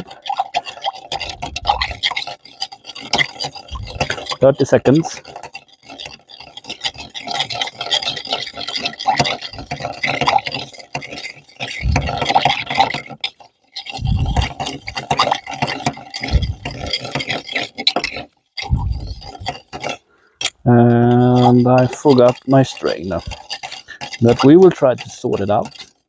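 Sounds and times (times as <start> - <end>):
spoon stirring ice in metal tin: 0.0 - 26.0.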